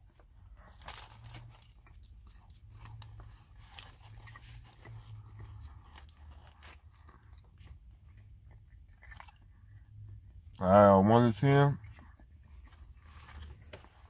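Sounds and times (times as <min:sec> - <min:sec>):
person chewing crispy food: 0:00.0 - 0:14.0.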